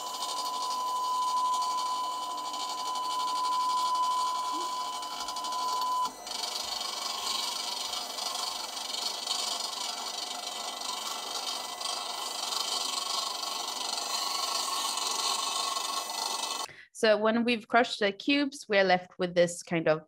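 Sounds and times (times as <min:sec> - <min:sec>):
mechanical whir: 0:00.0 - 0:16.7.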